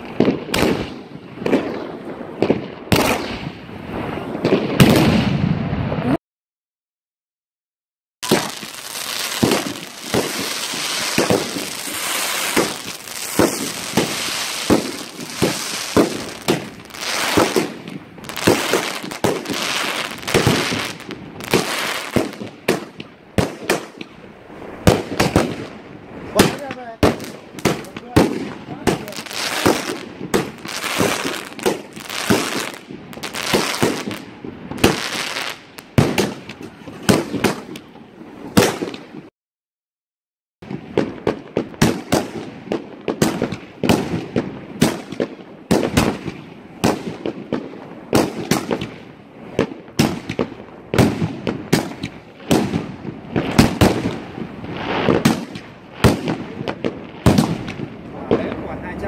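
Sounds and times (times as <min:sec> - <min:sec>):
fireworks banging: 0:00.0 - 0:06.2, 0:08.2 - 0:39.3, 0:40.7 - 0:59.0.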